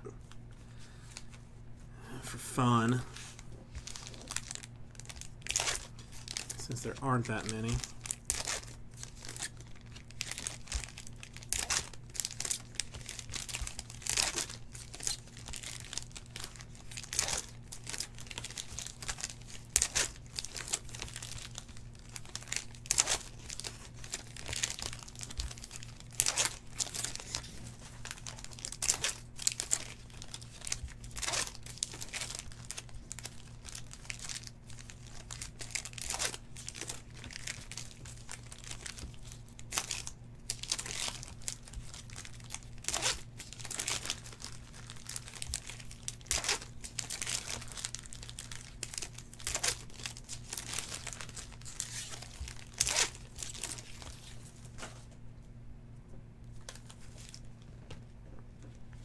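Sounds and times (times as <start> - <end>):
steady low hum: 0.0 - 59.0
foil wrappers crinkling: 2.6 - 55.1, 56.6 - 57.5.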